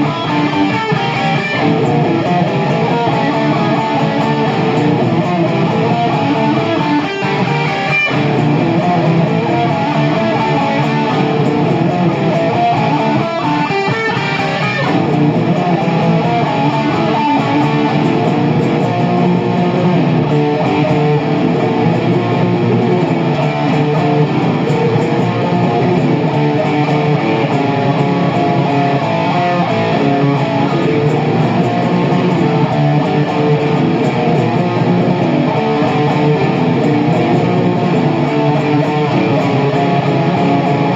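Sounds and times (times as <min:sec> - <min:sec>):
guitar music: 0:00.0 - 0:40.9.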